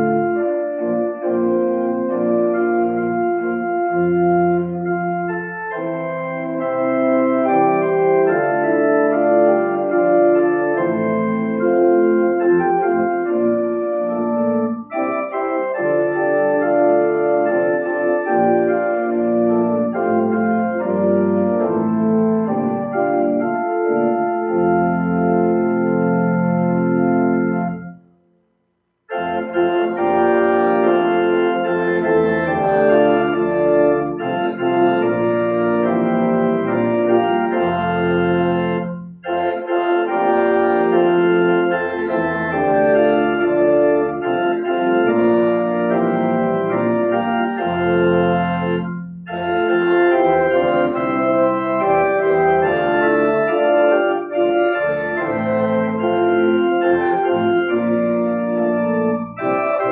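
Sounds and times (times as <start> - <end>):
organ playing a hymn: 0.0 - 28.2, 29.1 - 59.9.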